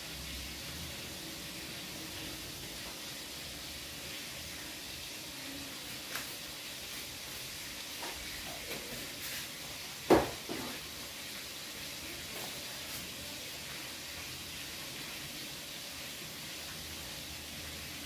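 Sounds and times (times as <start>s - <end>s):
pot cooking with steady hiss: 0.0s - 18.0s.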